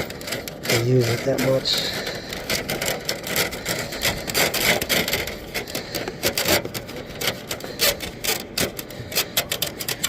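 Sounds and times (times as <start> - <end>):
brush scraping inside duct: 0.0 - 10.0.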